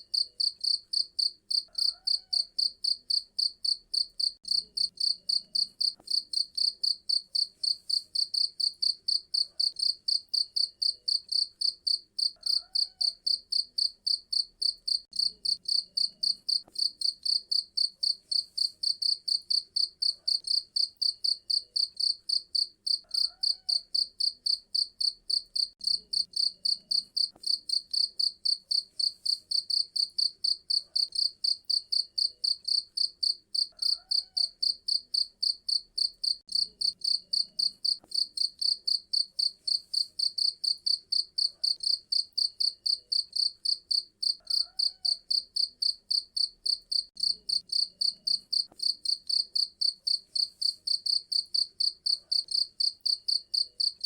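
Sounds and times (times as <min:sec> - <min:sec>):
cricket chirping: 0:00.1 - 0:54.0.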